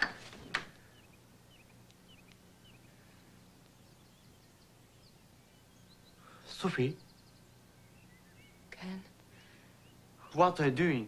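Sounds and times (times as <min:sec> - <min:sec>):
steady low hum: 0:00.0 - 0:11.0
faint small bird chirps: 0:00.7 - 0:10.4.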